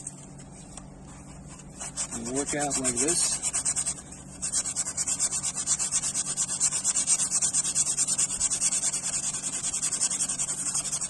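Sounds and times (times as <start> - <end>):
sandpaper rasping on filler: 1.6 - 11.0.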